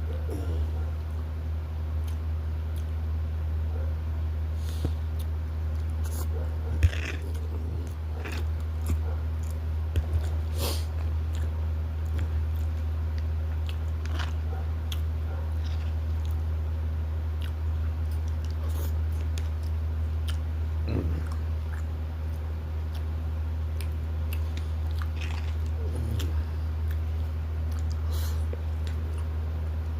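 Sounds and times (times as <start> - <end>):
steady low hum: 0.0 - 29.9
person chewing food: 2.0 - 3.0, 4.6 - 16.6, 17.3 - 29.9.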